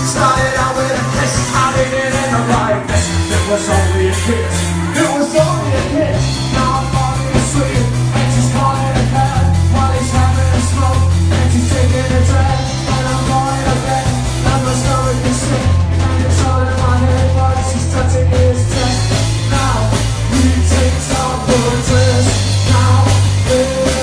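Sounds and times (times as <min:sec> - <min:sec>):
bass line: 0:00.0 - 0:24.0
drums: 0:00.0 - 0:24.0
electric guitars: 0:00.0 - 0:24.0
person singing: 0:00.0 - 0:24.0.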